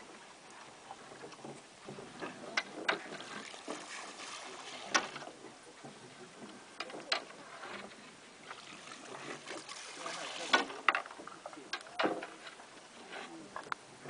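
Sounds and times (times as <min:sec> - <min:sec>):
water wash: 0:00.0 - 0:14.0
wind: 0:00.0 - 0:14.0.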